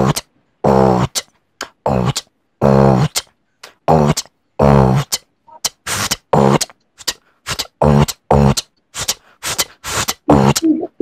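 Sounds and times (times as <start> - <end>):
man beatboxing: 0.0 - 11.0.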